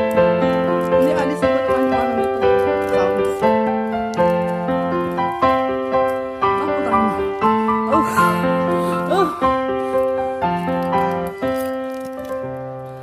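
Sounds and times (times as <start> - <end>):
calm piano music: 0.0 - 13.0.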